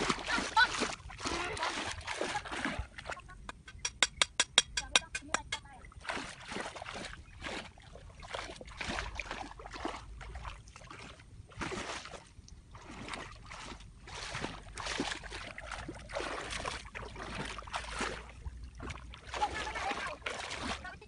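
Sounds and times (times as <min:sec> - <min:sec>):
wading through stream water: 0:00.0 - 0:03.7, 0:05.6 - 0:21.0.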